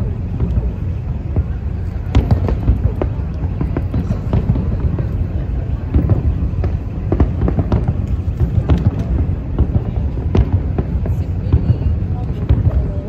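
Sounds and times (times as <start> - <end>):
continuous low rumble: 0.0 - 13.0
fireworks cracking and popping: 0.0 - 13.0.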